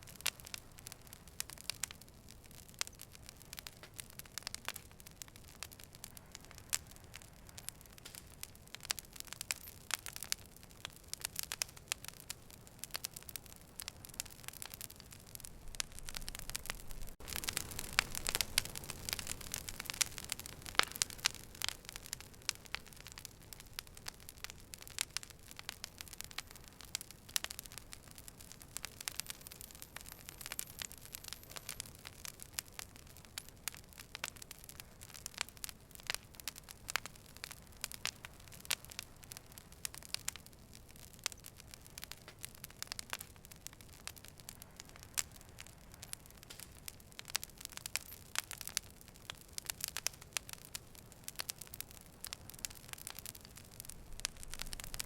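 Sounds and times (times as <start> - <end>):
low steady hiss: 0.0 - 55.0
wood fire crackling and popping: 0.0 - 55.0.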